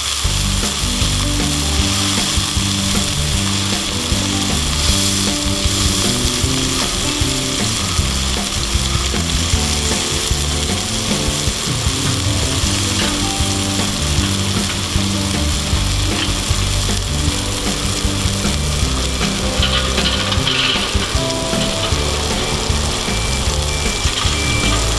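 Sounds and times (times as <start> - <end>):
food sizzling on grill: 0.0 - 24.9
background music: 0.3 - 24.9.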